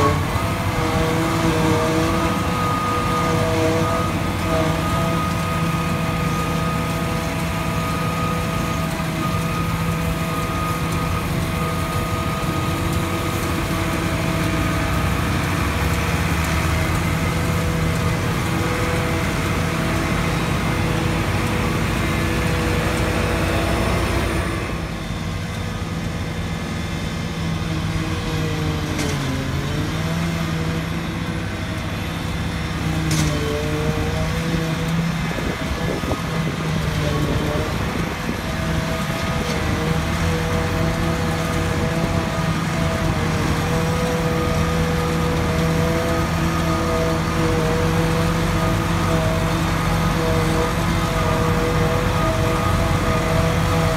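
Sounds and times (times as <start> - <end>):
tractor and forage harvester droning: 0.0 - 53.9.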